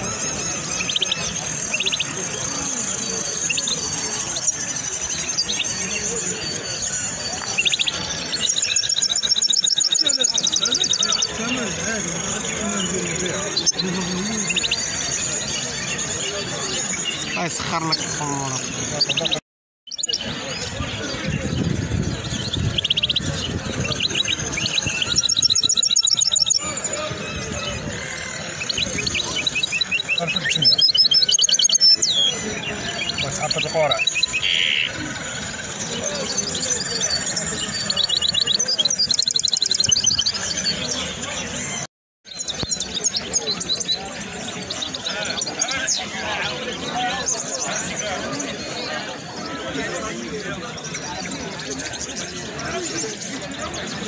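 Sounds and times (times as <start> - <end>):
songbird trilling: 0.0 - 49.7
low voices: 0.0 - 54.0
many birds chattering: 0.0 - 54.0.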